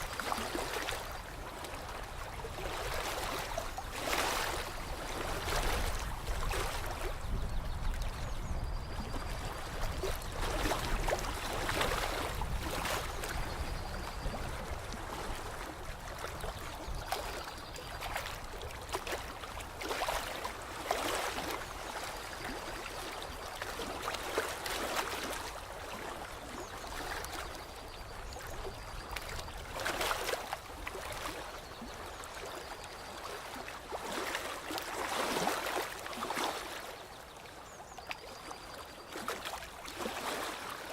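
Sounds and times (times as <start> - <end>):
lake water lapping: 0.0 - 40.9.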